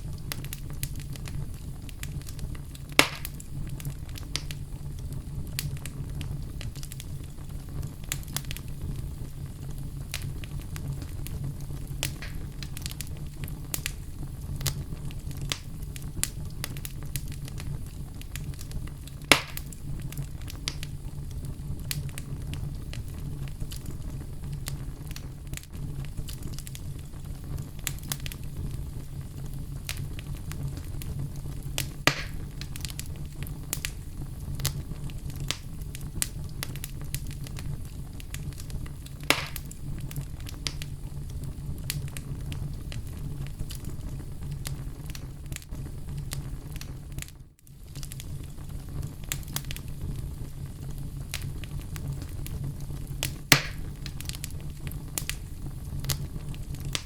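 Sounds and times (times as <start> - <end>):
fire crackling: 0.0 - 57.0
fire rumbling: 0.0 - 57.0
loud fire pops: 0.0 - 57.0.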